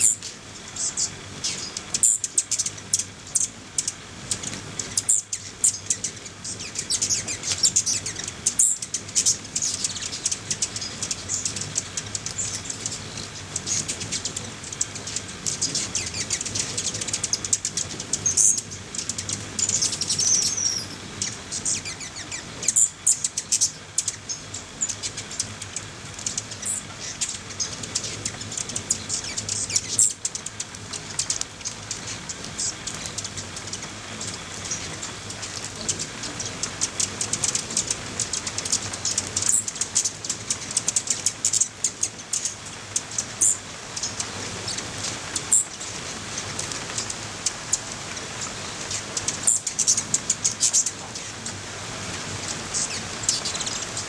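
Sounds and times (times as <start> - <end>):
hummingbird wings whirring: 0.0 - 54.0
hummingbirds squeaking and chittering: 0.0 - 54.0
rain hiss: 0.0 - 54.0.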